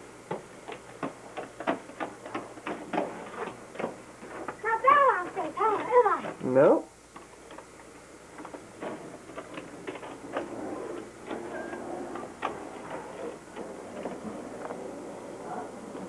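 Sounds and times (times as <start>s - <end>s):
skate wheels clicking and clacking: 0.0s - 6.5s, 8.4s - 15.1s
skate wheels rolling on concrete: 0.0s - 16.0s.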